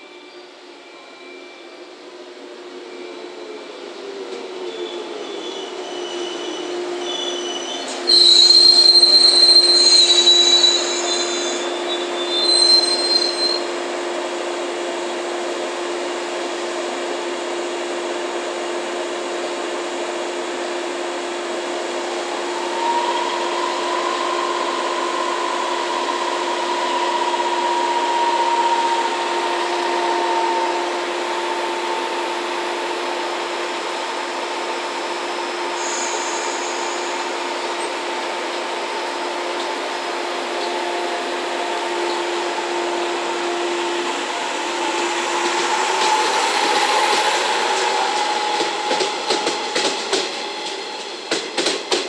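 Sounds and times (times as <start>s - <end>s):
train brake squeal: 0.0s - 3.9s, 4.5s - 13.8s, 22.4s - 39.4s, 40.3s - 52.0s
train equipment hum: 6.4s - 52.0s.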